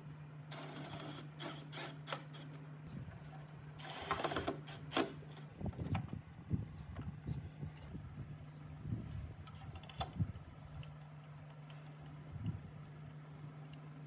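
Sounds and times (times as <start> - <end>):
small machine humming: 0.0 - 14.0.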